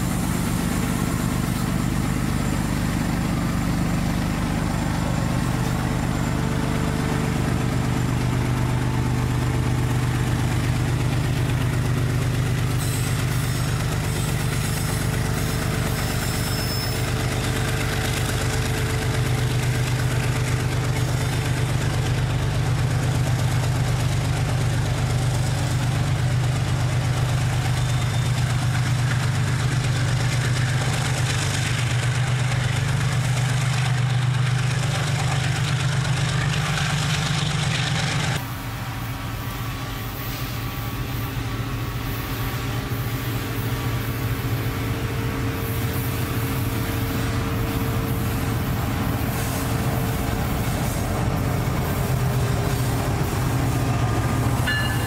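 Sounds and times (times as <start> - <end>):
engine drone: 0.0 - 55.0.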